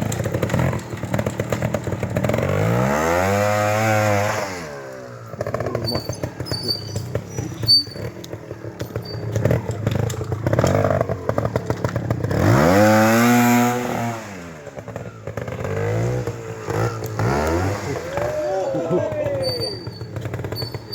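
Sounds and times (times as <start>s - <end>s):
knocks and clicks from bike and tyres: 0.0s - 20.9s
trials motorcycle engine revving: 0.0s - 20.9s.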